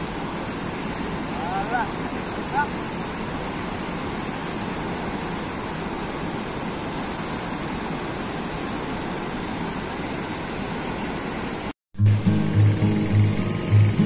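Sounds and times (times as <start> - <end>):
river water rushing through sluice gate: 0.0 - 11.7.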